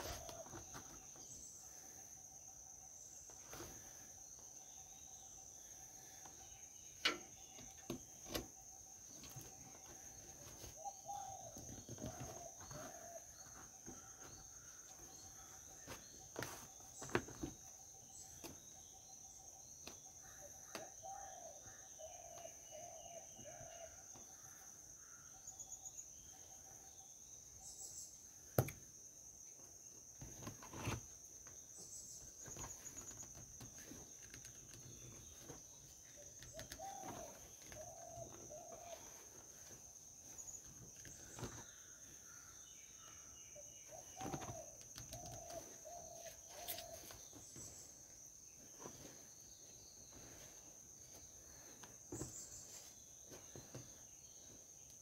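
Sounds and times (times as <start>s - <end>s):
bird calls: 0.0s - 28.8s, 30.2s - 55.0s.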